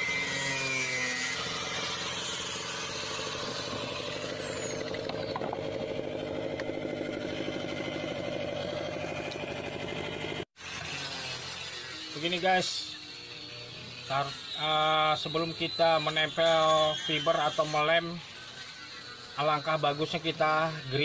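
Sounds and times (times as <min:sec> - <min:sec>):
angle grinder grinding fibreglass: 0:00.0 - 0:21.0.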